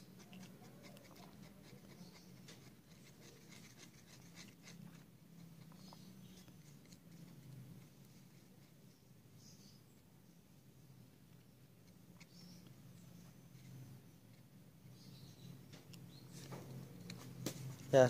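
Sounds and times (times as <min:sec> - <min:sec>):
stick scratching and tapping paint: 0:00.0 - 0:09.0, 0:11.3 - 0:17.9.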